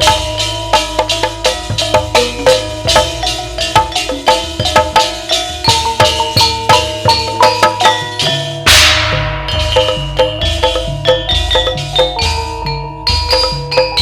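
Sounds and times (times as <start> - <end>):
mallet percussion run: 0.0 - 14.0
steady drum beats: 0.0 - 14.0.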